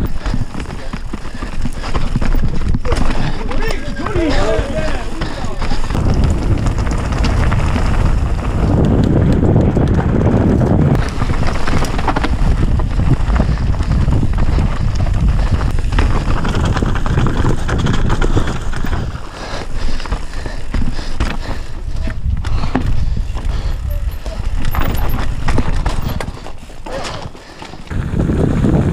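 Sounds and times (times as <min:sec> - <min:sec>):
bike rattling over stones: 0:00.0 - 0:28.9
tyres crunching on dirt: 0:00.0 - 0:28.9
wind buffeting microphone: 0:00.0 - 0:28.9.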